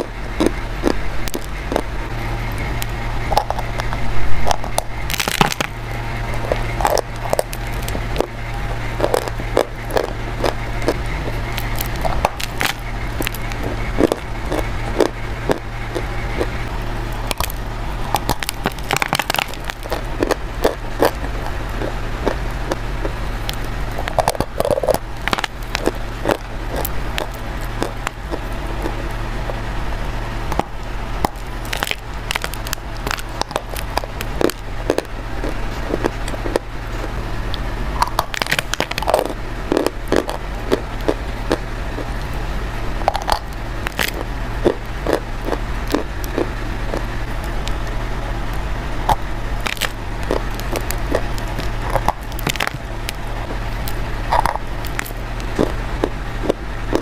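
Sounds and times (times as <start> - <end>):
chewing brittle food crunches: 0.0 - 29.7, 30.5 - 42.4, 43.0 - 57.0
low electrical hum: 0.0 - 57.0.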